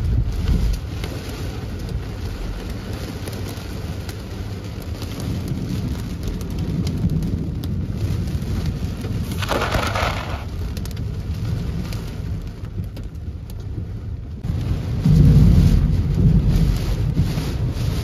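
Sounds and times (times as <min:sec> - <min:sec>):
rain and hail on car roof: 0:00.0 - 0:18.0.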